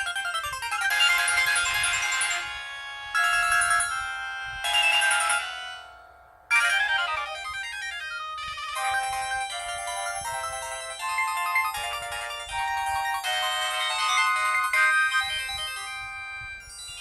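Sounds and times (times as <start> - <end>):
synthesised ringtone melody: 0.0 - 17.0.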